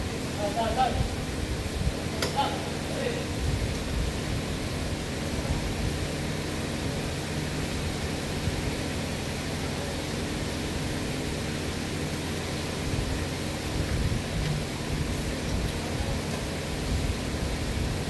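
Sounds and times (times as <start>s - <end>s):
rushing hiss: 0.0s - 18.0s.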